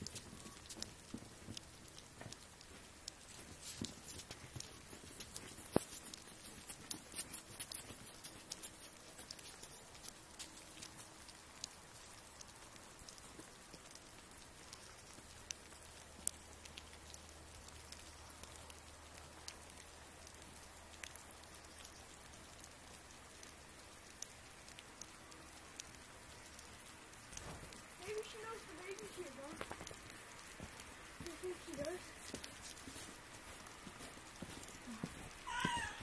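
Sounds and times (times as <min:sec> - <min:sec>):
small drips and ticks: 0:00.0 - 0:36.0.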